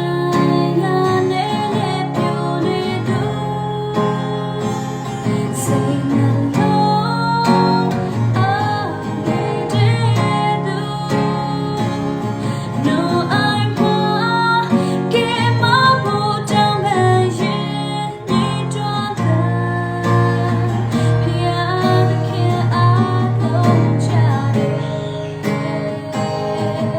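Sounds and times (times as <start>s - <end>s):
gospel song with acoustic guitar: 0.0s - 26.9s.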